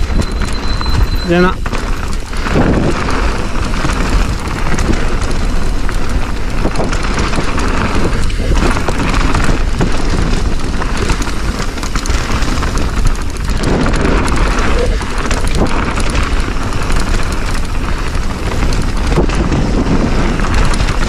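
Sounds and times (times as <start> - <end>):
bike rattling over bumps: 0.0 - 21.0
wind rushing over microphone: 0.0 - 21.0.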